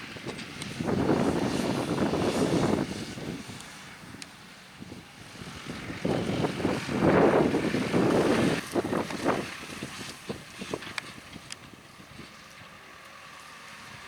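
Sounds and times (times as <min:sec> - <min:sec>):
wind buffeting microphone: 0:00.0 - 0:12.8
tractor working: 0:00.0 - 0:14.0.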